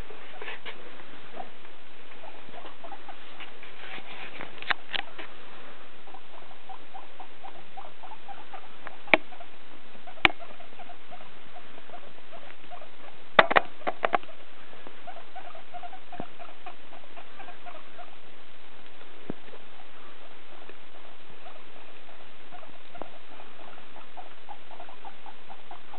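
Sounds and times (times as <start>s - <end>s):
guinea pig chirping: 1.3s - 5.3s, 6.0s - 18.3s, 18.9s - 25.9s.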